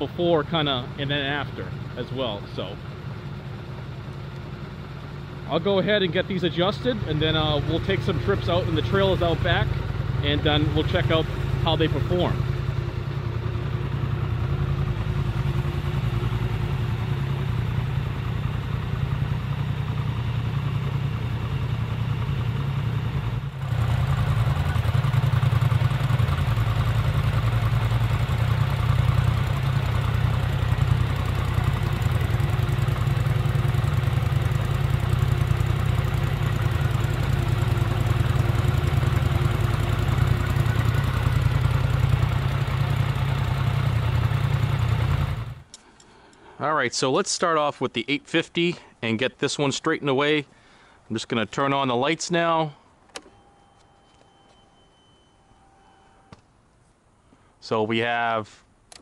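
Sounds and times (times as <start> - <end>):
atv engines idling: 0.0 - 53.0.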